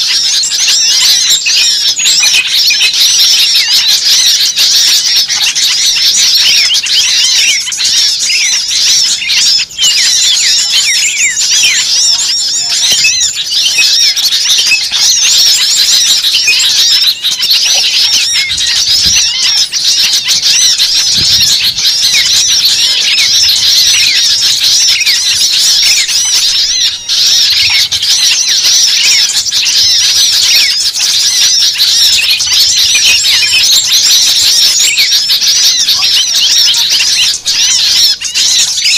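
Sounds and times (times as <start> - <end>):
many small birds chirping: 0.0 - 38.9.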